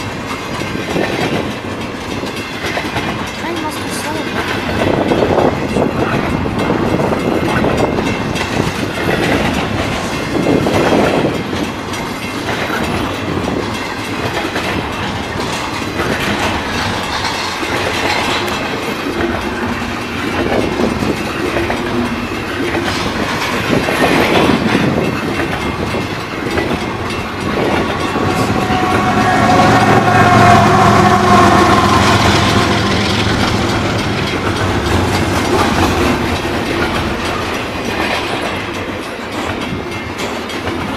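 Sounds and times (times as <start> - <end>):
clickety-clack over rail joints: 0.0 - 40.9
freight train wheels rumbling on rails: 0.0 - 40.9.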